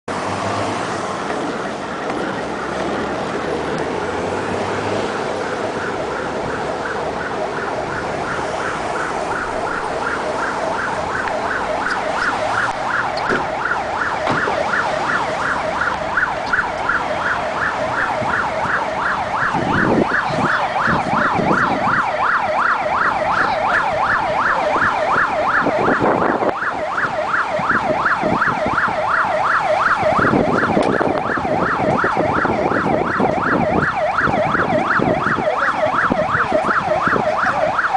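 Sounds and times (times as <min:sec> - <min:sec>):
siren yelping: 0:01.3 - 0:37.9.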